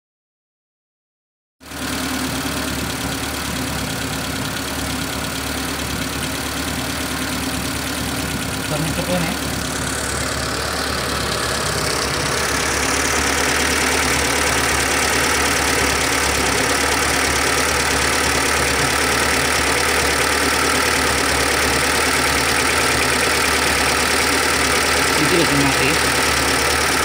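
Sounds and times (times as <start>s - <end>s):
car engine idling: 1.7s - 27.0s.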